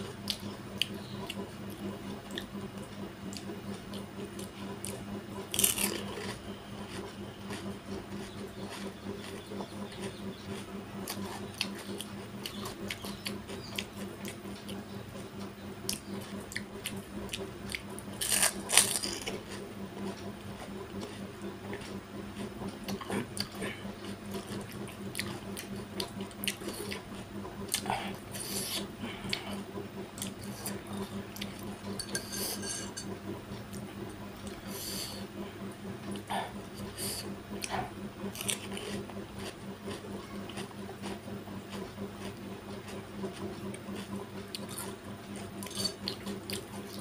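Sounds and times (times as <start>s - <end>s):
wet chewing clicks: 0.0s - 32.2s, 36.0s - 47.0s
steady low hum: 0.0s - 47.0s.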